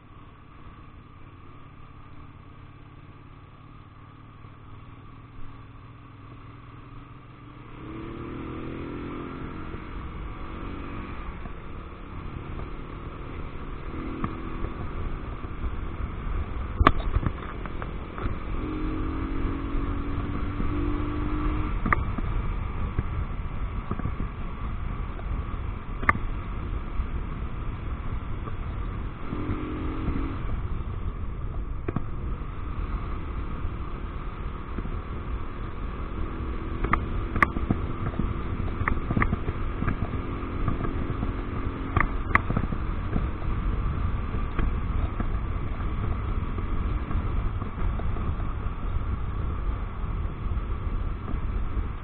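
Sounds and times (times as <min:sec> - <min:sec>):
motorcycle engine: 0:00.0 - 0:52.0
wind and road rumble: 0:00.0 - 0:52.0.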